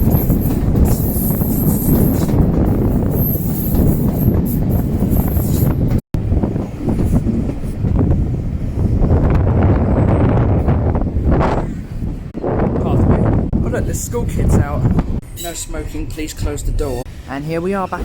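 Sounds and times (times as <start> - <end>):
wind buffeting microphone: 0.0 - 17.3
train rumbling on rails: 0.0 - 18.0.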